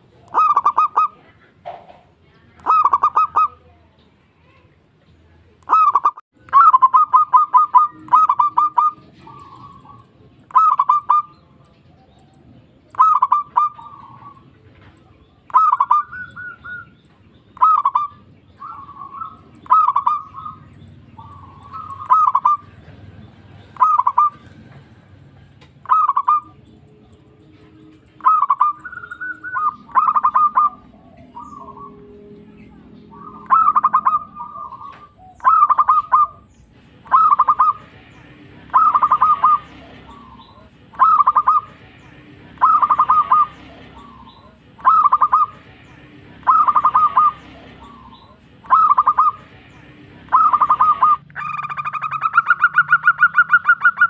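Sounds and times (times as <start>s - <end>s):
dove cooing: 0.0s - 2.0s, 2.6s - 3.7s, 5.7s - 17.0s, 17.6s - 38.0s, 38.6s - 45.7s, 46.3s - 54.0s.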